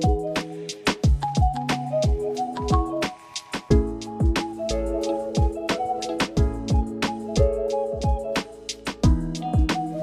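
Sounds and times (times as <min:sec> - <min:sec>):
electronic beat music: 0:00.0 - 0:10.0.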